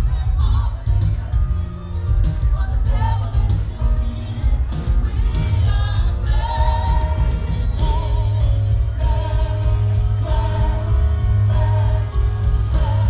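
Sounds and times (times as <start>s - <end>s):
song with heavy bass: 0.0s - 13.0s.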